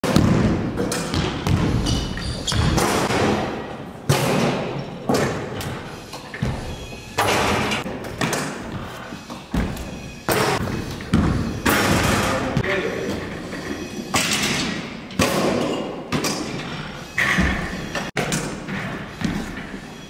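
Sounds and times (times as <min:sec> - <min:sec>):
basketballs bouncing and thudding: 0:00.0 - 0:16.6, 0:17.2 - 0:19.8.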